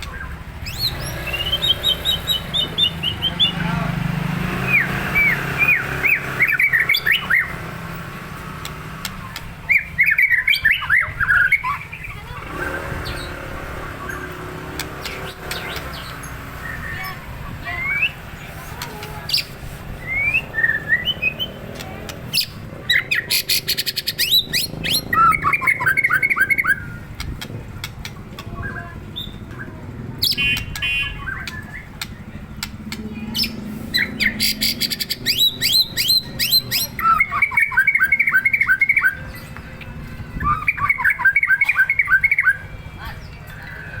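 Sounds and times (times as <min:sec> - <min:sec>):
songbird singing: 0:00.0 - 0:44.0.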